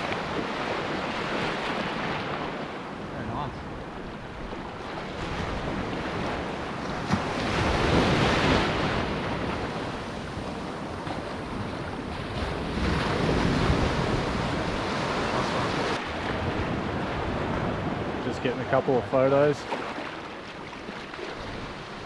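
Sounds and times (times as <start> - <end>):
surf washing up on beach: 0.0 - 22.0.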